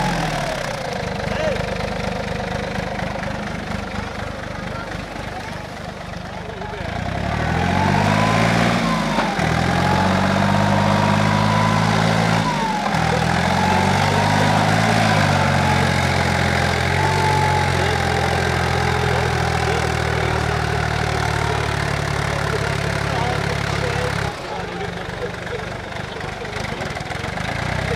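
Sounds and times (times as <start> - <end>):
tractor engine running under load: 0.0 - 27.9.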